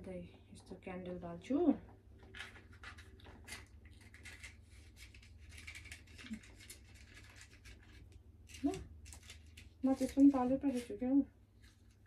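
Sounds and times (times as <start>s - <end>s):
low steady hum: 0.0s - 12.0s
clicks and rustles of small objects: 1.8s - 12.0s.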